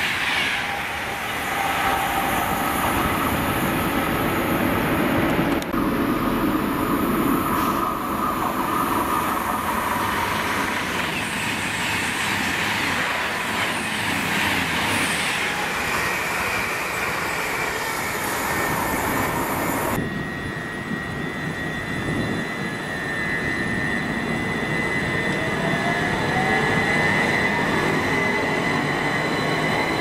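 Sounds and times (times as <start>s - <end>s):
diesel train approaching: 0.0s - 30.0s
electric train whine: 0.0s - 30.0s.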